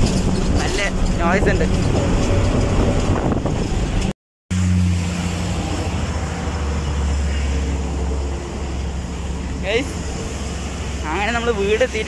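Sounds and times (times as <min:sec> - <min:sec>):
bus engine and road noise: 0:00.0 - 0:12.0
roadside traffic noise: 0:00.0 - 0:12.0.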